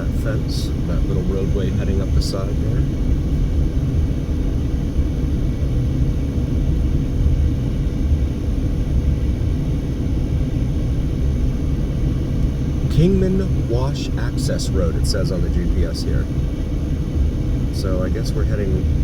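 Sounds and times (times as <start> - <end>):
car cabin road rumble: 0.0 - 19.0
faint steady hum: 0.0 - 19.0.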